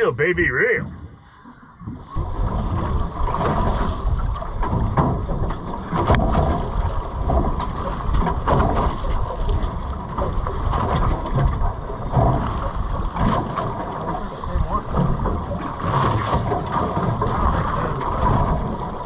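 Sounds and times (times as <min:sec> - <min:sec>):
water splashing against boat: 0:00.0 - 0:19.0.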